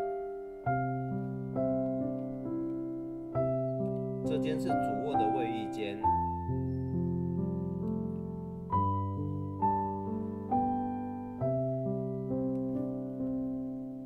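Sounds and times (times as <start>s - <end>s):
slow gentle piano piece: 0.0s - 14.0s.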